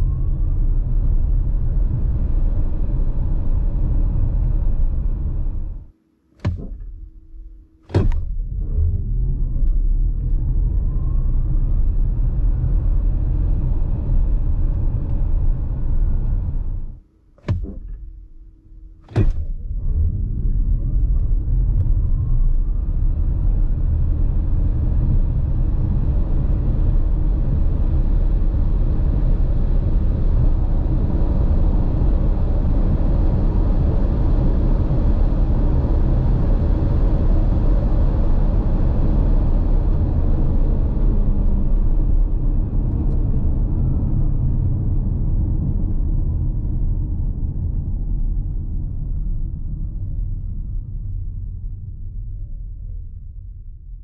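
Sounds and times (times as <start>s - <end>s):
road and wind noise: 0.0s - 6.9s, 7.9s - 18.3s, 18.9s - 51.9s.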